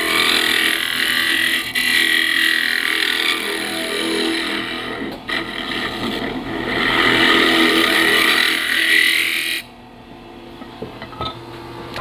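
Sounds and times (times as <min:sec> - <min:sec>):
lathe motor hum: 0:00.0 - 0:09.7
tool scraping wood on lathe: 0:00.0 - 0:09.7.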